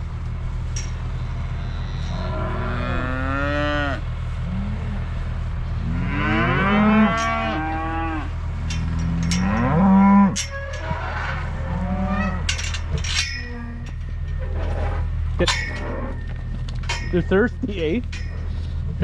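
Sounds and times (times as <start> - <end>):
steady low hum: 0.0 - 19.0
cattle mooing: 0.8 - 16.4.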